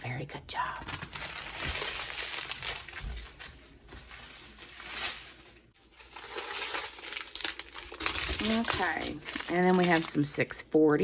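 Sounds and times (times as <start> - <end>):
plastic bags rustling: 0.7 - 10.6.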